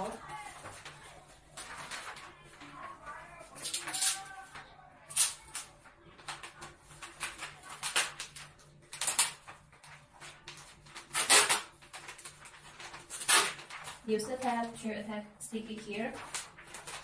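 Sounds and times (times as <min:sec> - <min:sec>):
wrapping paper rustling: 0:00.0 - 0:17.0.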